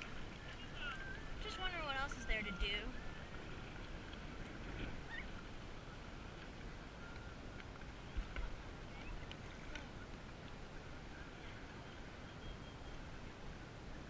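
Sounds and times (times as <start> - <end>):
water around kayak: 0.0 - 14.0
wind rumbling on microphone: 0.0 - 14.0.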